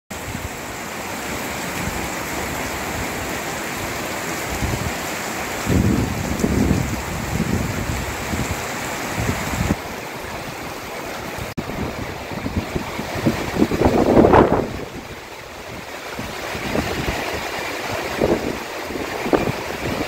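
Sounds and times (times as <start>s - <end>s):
heavy rain falling: 0.1s - 20.0s.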